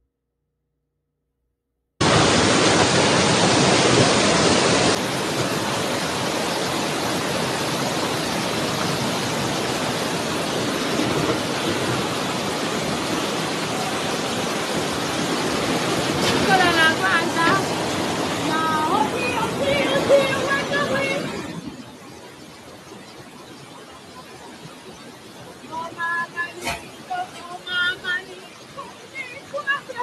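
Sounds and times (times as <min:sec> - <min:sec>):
wind and rain roaring: 0:02.0 - 0:30.0.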